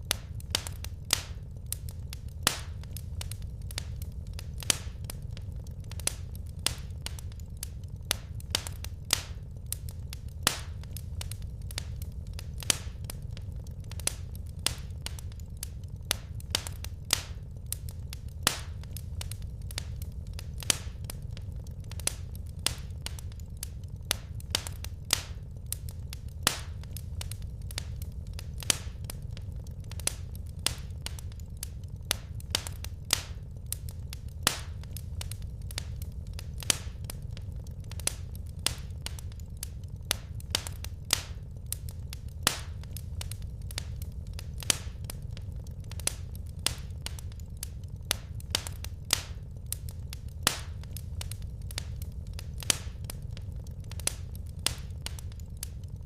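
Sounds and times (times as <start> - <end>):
burning logs crackling and popping: 0.0 - 56.0
low rumble of flames: 0.0 - 56.0.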